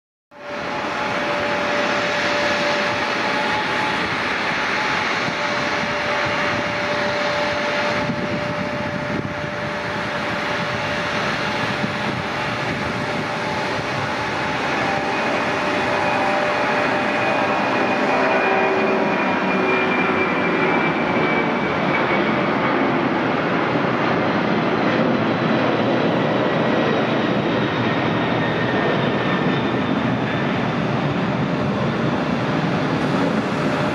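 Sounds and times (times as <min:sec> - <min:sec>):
jet engines roaring at takeoff: 0:00.3 - 0:33.9.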